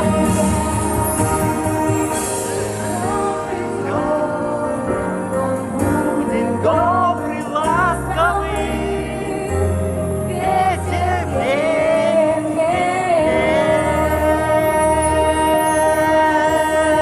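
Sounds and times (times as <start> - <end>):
instrumental accompaniment with bass: 0.0 - 17.0
person singing: 0.0 - 17.0.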